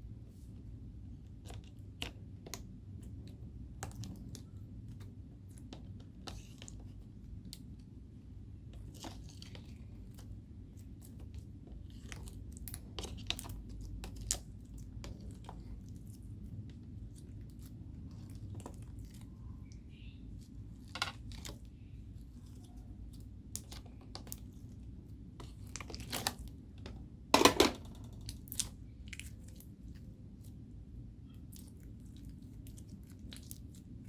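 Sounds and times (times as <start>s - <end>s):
slime squelching: 0.9s - 27.3s, 28.2s - 34.0s.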